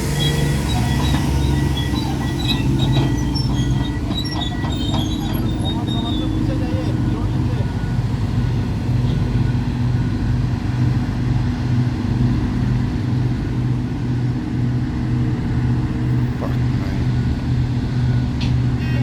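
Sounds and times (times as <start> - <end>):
heavy machine engine humming: 0.0 - 19.0.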